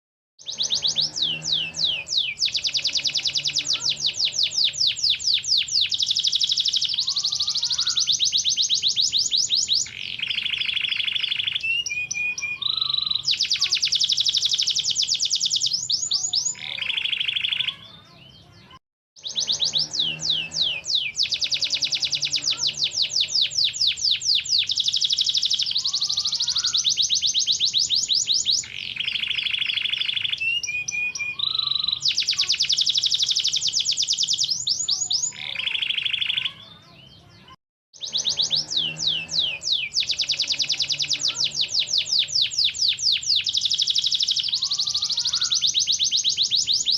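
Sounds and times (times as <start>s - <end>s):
canary singing rapid trills: 0.4s - 46.9s.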